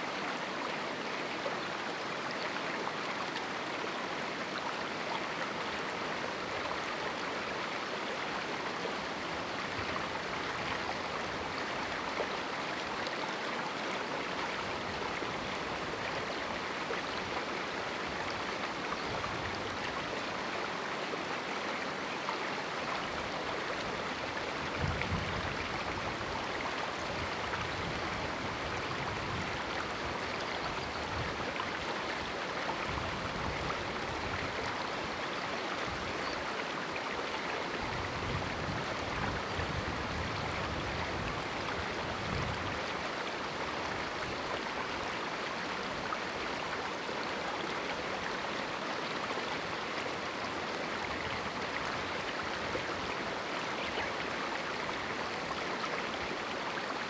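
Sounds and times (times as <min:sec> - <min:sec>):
river water splashing over rocks: 0:00.0 - 0:57.0.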